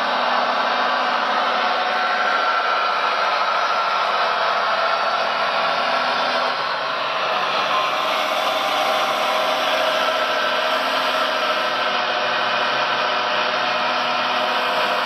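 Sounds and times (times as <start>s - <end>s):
model excavator hydraulic whine: 0.0s - 15.0s.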